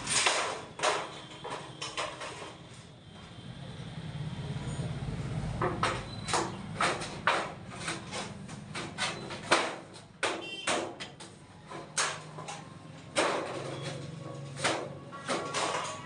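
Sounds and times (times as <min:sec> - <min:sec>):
hard objects knocking: 0:00.0 - 0:02.6, 0:05.6 - 0:16.0.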